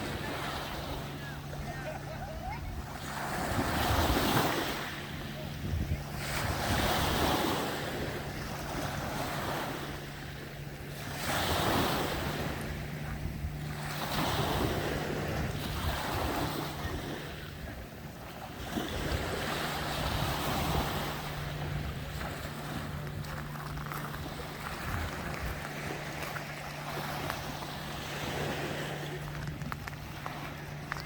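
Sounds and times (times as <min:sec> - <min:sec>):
sea waves washing in: 0:00.0 - 0:31.0
steady low hum: 0:00.0 - 0:31.0
wind buffeting microphone: 0:00.0 - 0:31.0.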